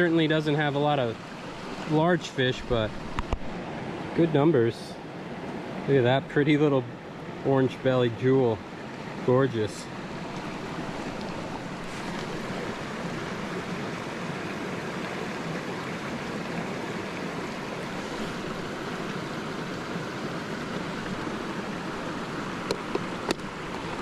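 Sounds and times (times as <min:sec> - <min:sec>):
stream flowing over rocks: 0:00.0 - 0:24.0.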